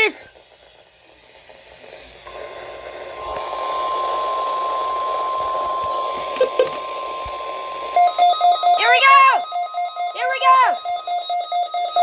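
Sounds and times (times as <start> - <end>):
radio static: 0.0 - 12.0
steady alarm tone: 2.3 - 12.0.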